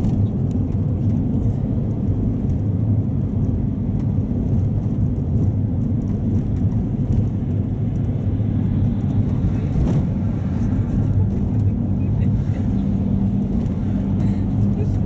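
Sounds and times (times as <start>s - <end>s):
minibus engine and tyres rumbling: 0.0s - 15.0s.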